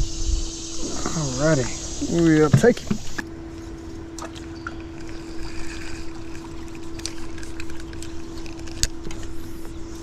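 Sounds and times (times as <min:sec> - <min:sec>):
electric boat motor humming: 0:00.0 - 0:10.0.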